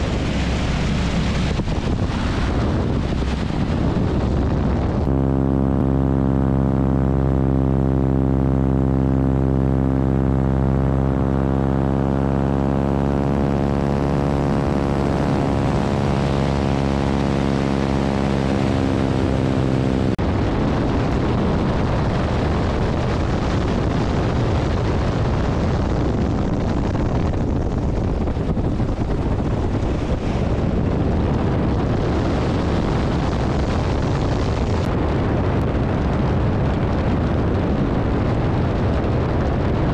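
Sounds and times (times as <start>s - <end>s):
propeller engine drone: 0.0s - 39.9s
rushing wind: 0.0s - 39.9s.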